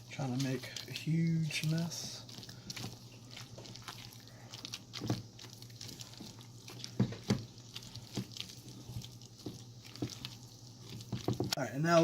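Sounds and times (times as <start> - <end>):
spatula squelching thick dip: 0.0 - 11.6.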